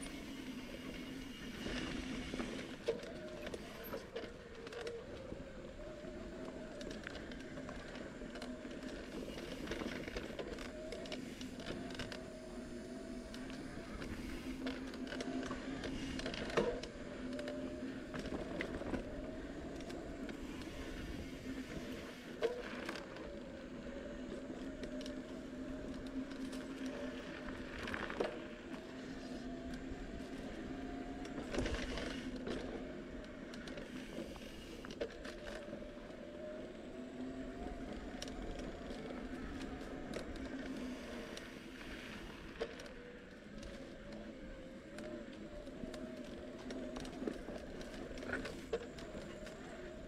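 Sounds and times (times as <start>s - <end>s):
bicycle clicks and rattles: 0.0s - 50.0s
bicycle whine: 0.0s - 50.0s.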